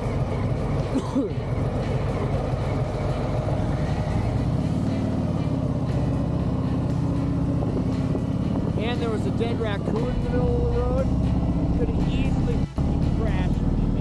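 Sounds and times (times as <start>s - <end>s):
motorcycle engine at road speed: 0.0s - 14.0s.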